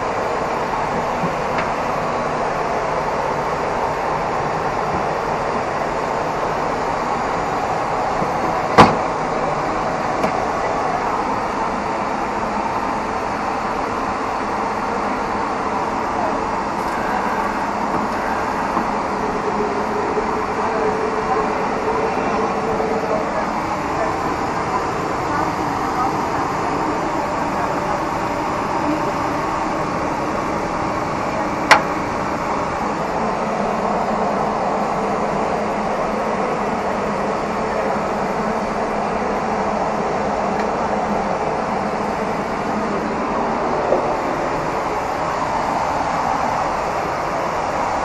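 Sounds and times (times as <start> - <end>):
airliner cabin engine roar: 0.0 - 48.0.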